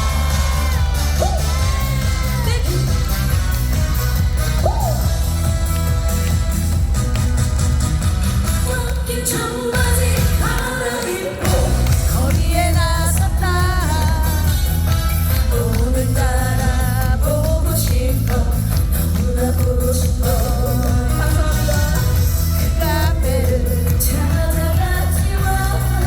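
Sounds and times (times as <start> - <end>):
woman singing with vibrato: 0.0 - 3.7, 8.5 - 26.0
backing track with heavy bass beat: 0.0 - 9.0, 11.4 - 26.0.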